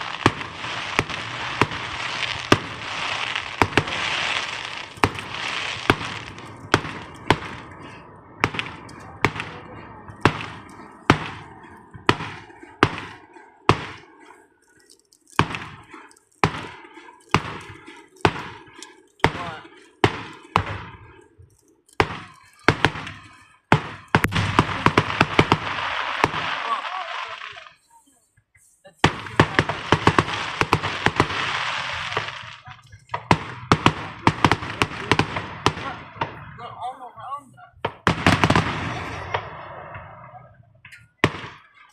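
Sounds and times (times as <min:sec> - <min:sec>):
firework bangs: 0:00.0 - 0:21.2, 0:21.9 - 0:27.8, 0:29.0 - 0:37.0, 0:37.7 - 0:41.9
firework crackling: 0:00.0 - 0:28.2, 0:28.9 - 0:41.9.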